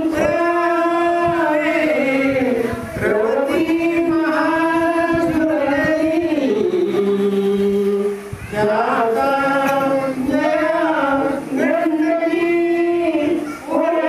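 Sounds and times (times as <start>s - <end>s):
male voices chanting: 0.0s - 14.0s.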